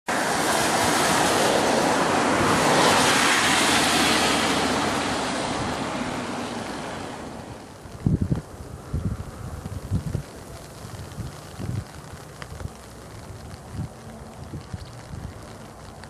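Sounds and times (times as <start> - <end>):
torrential rain hissing: 0.1 - 16.0.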